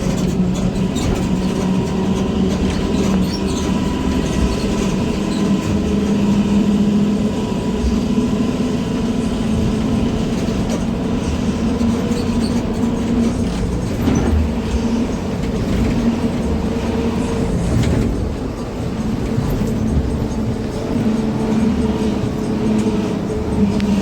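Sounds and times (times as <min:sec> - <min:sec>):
bus engine low rumble: 0:00.0 - 0:24.0.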